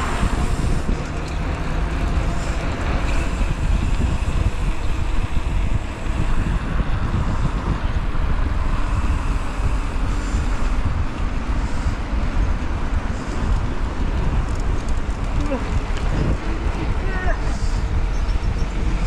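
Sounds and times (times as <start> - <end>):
road and traffic noise: 0.0 - 19.0
wind rushing on microphone: 0.0 - 19.0.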